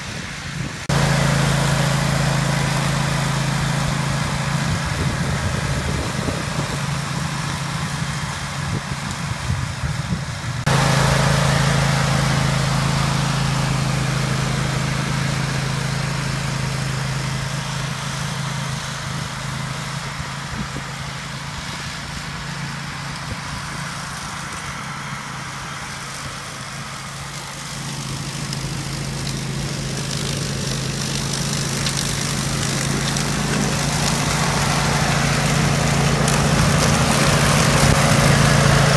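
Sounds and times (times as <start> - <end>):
ride-on mower running: 0.0 - 38.9.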